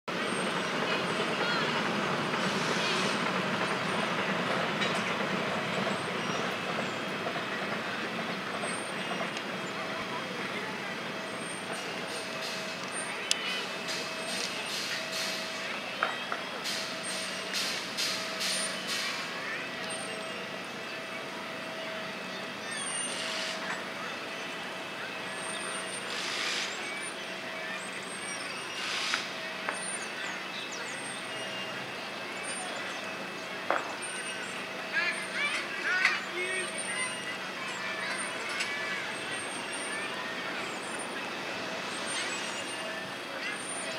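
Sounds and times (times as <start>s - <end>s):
train wheels on rails: 0.1s - 43.9s.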